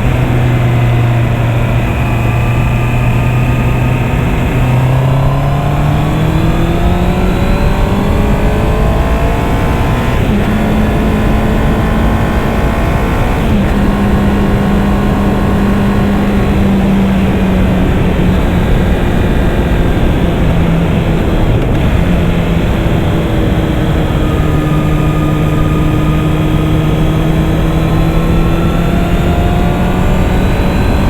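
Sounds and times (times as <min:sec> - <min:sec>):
motorcycle engine accelerating: 0:00.0 - 0:31.0
wind rush: 0:00.0 - 0:31.0.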